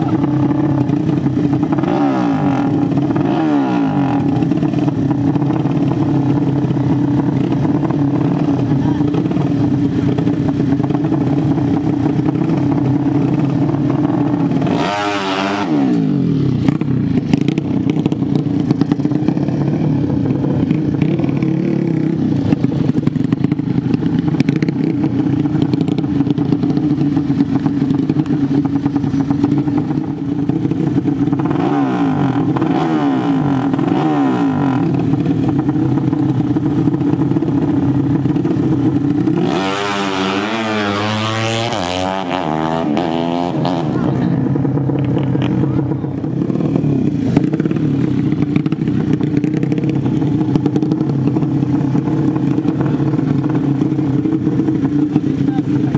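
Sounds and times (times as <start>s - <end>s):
motorcycle engines idling and revving: 0.0s - 55.9s.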